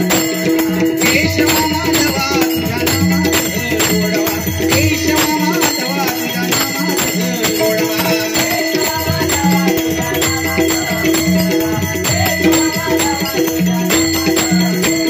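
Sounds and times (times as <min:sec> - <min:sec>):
hand drum beating fast rhythm: 0:00.0 - 0:15.0.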